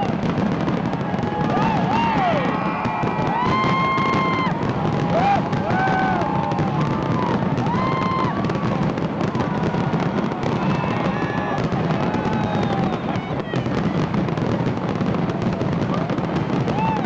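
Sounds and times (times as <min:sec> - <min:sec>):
fireworks bangs and crackles: 0:00.0 - 0:17.0
fireworks whistling: 0:00.0 - 0:17.0.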